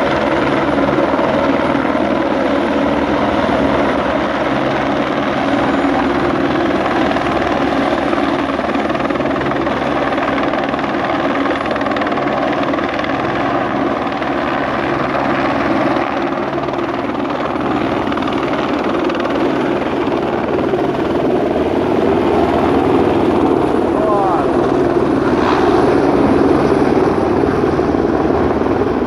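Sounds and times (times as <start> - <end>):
helicopter rotor and turbine: 0.0 - 29.0.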